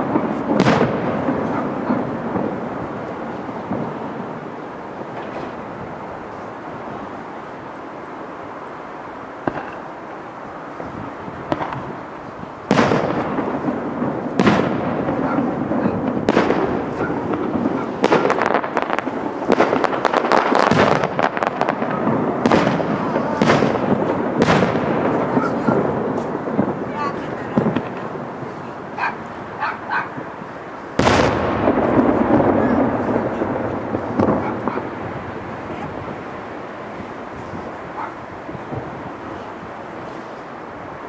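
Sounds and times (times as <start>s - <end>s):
firework bangs: 0.0s - 41.0s
fireworks bursting: 0.0s - 41.0s
fireworks crackling: 0.0s - 41.0s.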